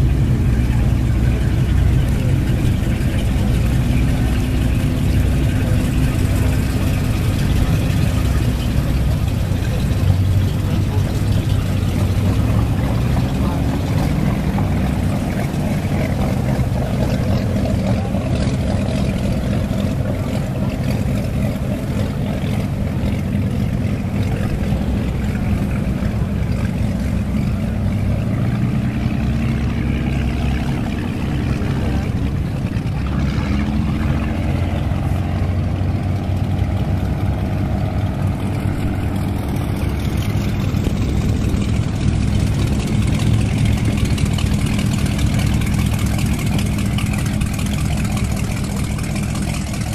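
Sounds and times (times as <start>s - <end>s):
boat engines burbling: 0.0s - 49.9s.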